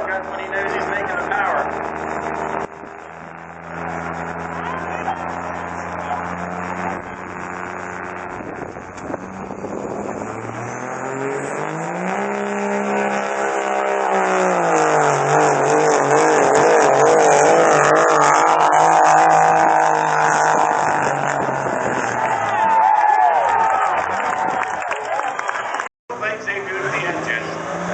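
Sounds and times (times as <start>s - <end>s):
diesel truck engine revving: 0.0s - 27.9s.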